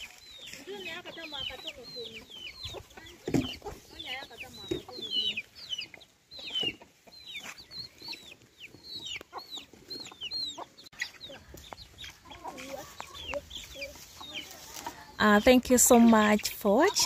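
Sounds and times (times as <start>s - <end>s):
chicks peeping: 0.0s - 17.0s
hens clucking: 0.0s - 17.0s.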